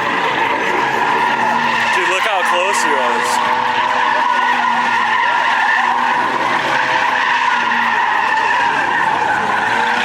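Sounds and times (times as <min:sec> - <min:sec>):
car engine revving: 0:00.0 - 0:10.0
car tyres squealing: 0:00.0 - 0:10.0.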